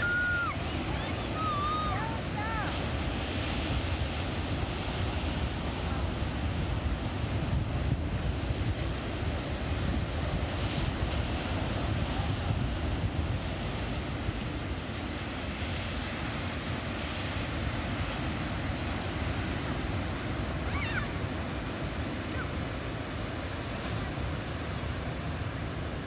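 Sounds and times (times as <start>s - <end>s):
ocean surf breaking: 0.0s - 26.0s
wind on microphone: 0.0s - 26.0s.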